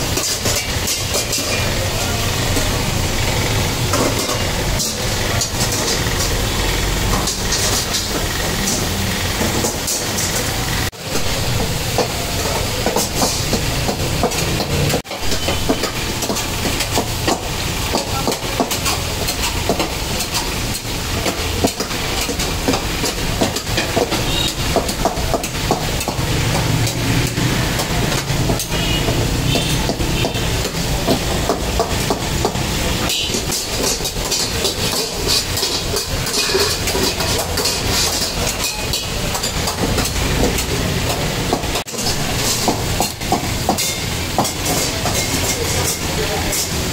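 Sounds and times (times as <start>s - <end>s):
gas burner flame rumble: 0.0s - 46.9s
meat sizzling in a wok: 0.0s - 46.9s
steel ladle scraping a wok: 0.0s - 46.9s.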